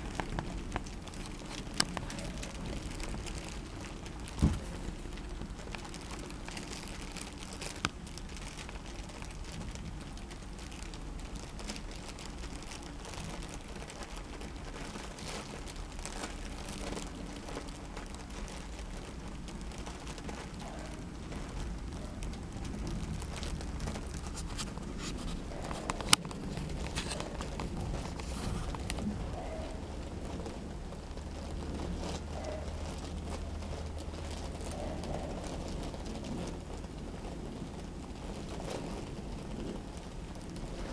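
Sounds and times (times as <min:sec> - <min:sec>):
fabric crinkling and rustling: 0:00.0 - 0:40.9.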